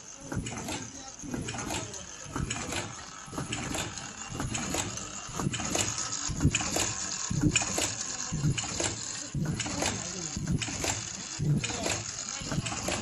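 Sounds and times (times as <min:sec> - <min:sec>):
machine clattering: 0:00.0 - 0:13.0
heavy mechanical thumps: 0:00.2 - 0:13.0.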